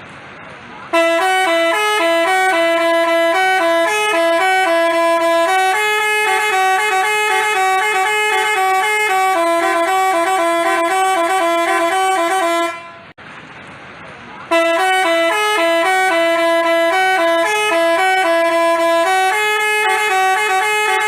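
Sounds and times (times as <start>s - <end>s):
bus horn melody: 0.9s - 13.2s, 14.5s - 21.0s.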